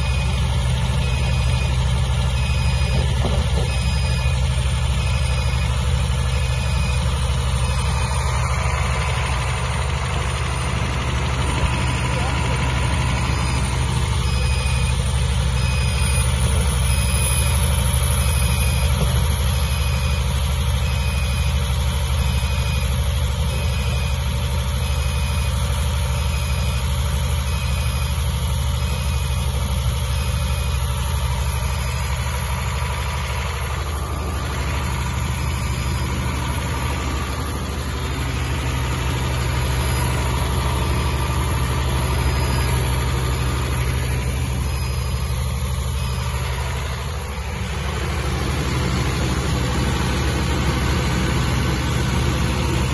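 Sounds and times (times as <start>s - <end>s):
diesel generator droning: 0.0s - 52.9s
thin high whine: 0.0s - 52.9s.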